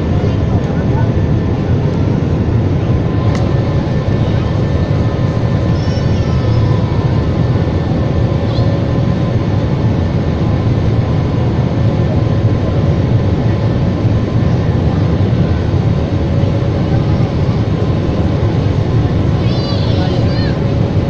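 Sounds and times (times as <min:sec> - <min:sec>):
jet airliner cabin roar: 0:00.0 - 0:21.0.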